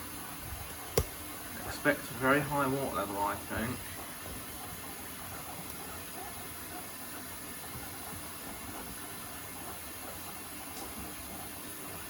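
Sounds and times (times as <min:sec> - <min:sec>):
washing machine filling with water: 0:01.7 - 0:12.0.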